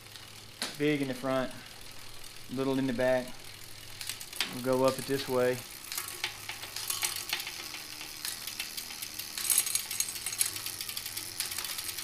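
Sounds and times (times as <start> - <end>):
bicycle chain clicking and rattling: 0.0 - 12.0.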